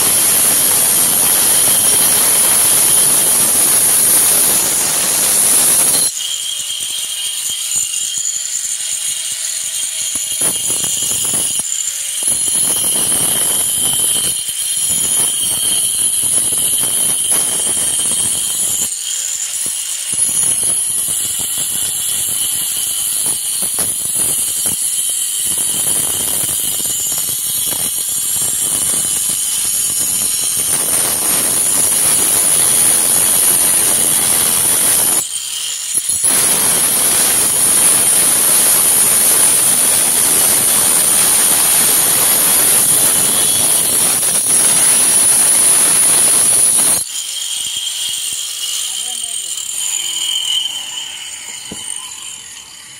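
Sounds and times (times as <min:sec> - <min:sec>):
angle grinder cutting brick: 0:00.0 - 0:52.9.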